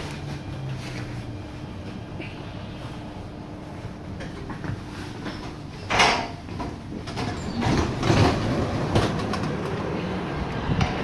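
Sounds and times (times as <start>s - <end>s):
train car rumble: 0.0s - 11.0s
train rattling: 0.0s - 11.0s.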